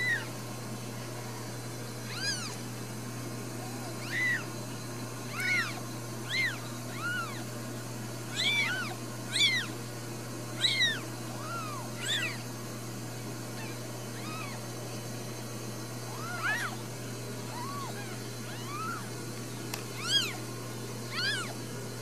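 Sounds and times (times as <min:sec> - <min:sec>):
kittens mewing: 0:00.0 - 0:00.4, 0:01.2 - 0:02.7, 0:03.3 - 0:19.2, 0:19.8 - 0:21.6.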